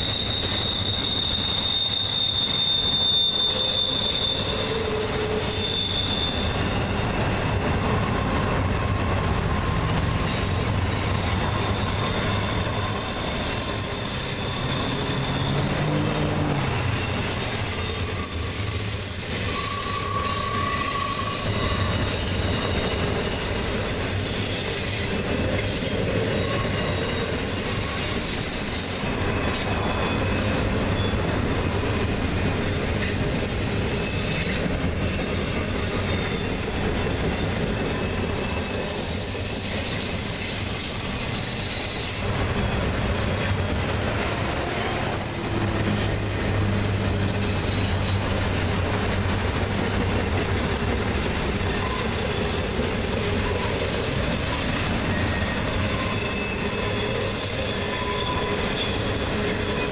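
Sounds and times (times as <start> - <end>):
freight train cars rolling: 0.0 - 59.9
wheel flanges squealing: 0.0 - 59.9.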